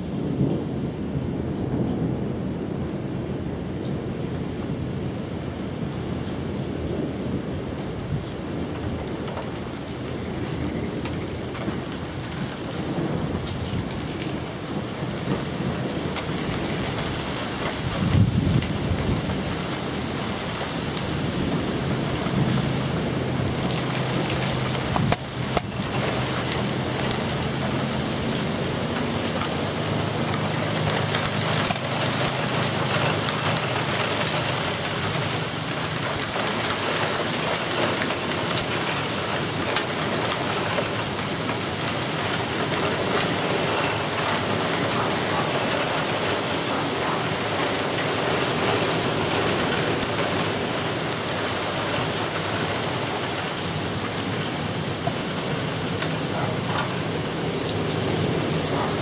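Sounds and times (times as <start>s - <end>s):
rain falling on pavement: 0.0s - 59.0s.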